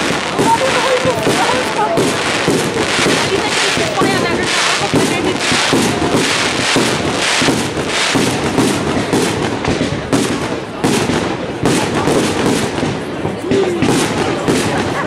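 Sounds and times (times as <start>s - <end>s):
fireworks bangs and crackle: 0.0s - 15.0s.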